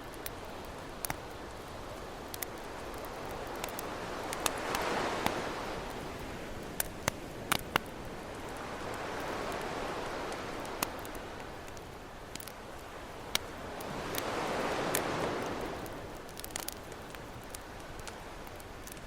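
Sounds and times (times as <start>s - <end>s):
campfire crackling and popping: 0.0s - 19.0s
ocean waves washing in: 2.8s - 12.1s, 12.8s - 19.0s.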